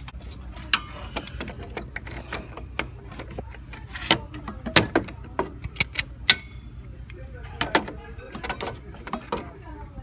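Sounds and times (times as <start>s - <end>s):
low steady hum: 0.0s - 10.0s
metallic clicks and knocks: 0.6s - 9.6s.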